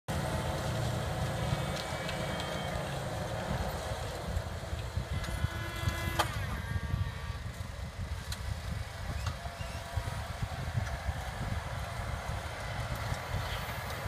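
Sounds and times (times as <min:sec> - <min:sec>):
tractor diesel engine rumbling: 0:00.1 - 0:14.0.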